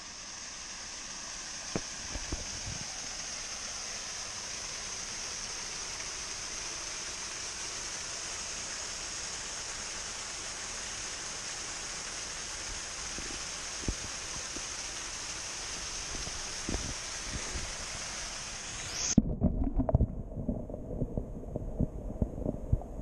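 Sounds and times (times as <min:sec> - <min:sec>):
waterfall rushing into a pool: 0:00.0 - 0:20.0.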